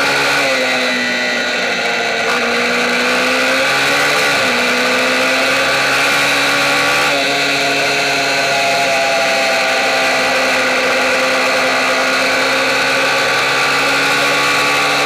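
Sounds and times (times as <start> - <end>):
minibike engine at high revs: 0.0 - 15.0.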